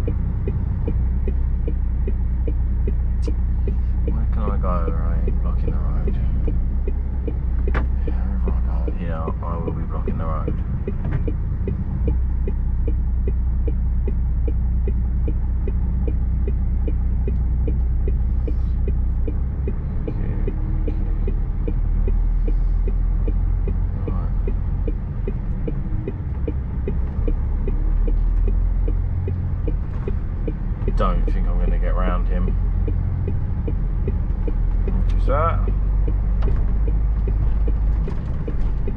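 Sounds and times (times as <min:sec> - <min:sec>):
diesel engine idling: 0:00.0 - 0:38.9
indicator relay ticking: 0:00.0 - 0:38.9.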